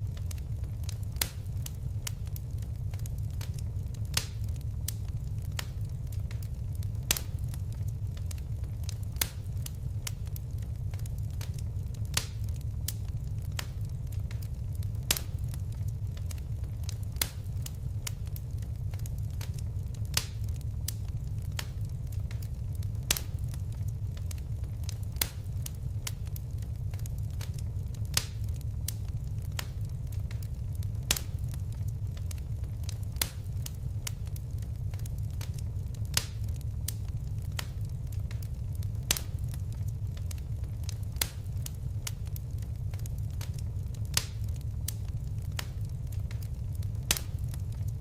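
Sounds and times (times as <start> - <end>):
fire crackling and popping: 0.0 - 48.0
low rumble of flames: 0.0 - 48.0.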